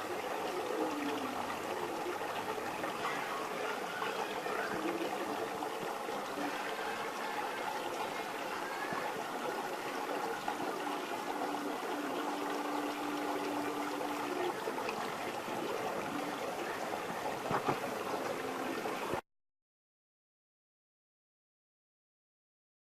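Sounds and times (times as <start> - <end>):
running water: 0.0 - 19.2.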